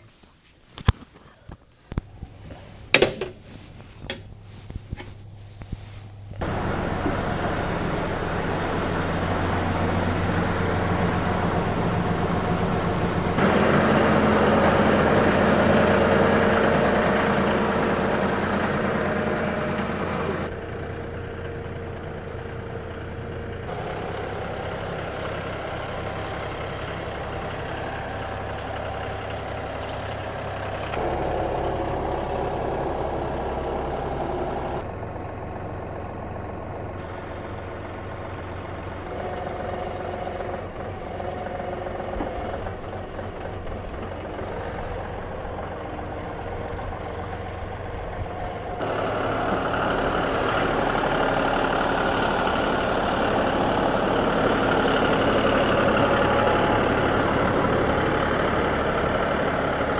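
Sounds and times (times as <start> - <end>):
engine running with low hum: 1.5 - 59.9.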